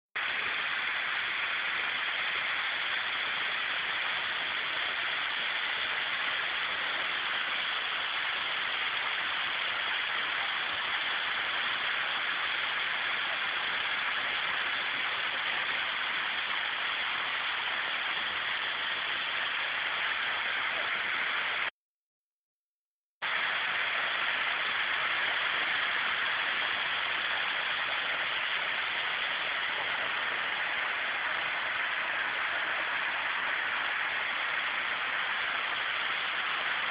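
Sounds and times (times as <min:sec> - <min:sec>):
waterfall rushing: 0:00.2 - 0:21.7, 0:23.2 - 0:36.9.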